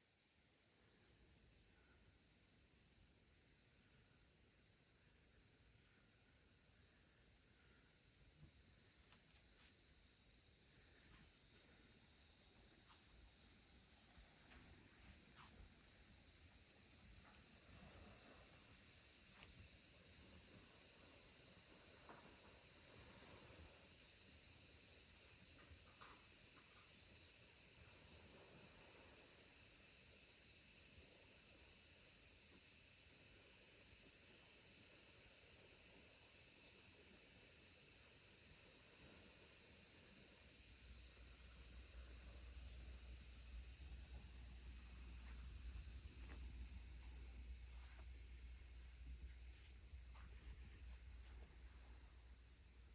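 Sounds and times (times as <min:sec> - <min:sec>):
insects chorus: 0:00.0 - 0:52.9.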